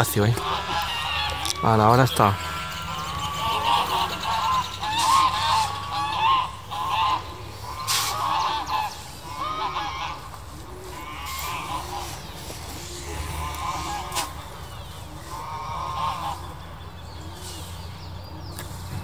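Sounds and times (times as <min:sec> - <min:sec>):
geese honking: 0:00.0 - 0:18.4.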